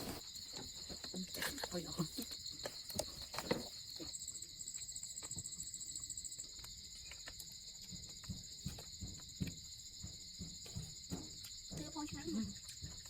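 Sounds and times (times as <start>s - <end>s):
higher pulsing insect call: 0.0s - 13.0s
insect chorus trilling: 0.0s - 13.0s.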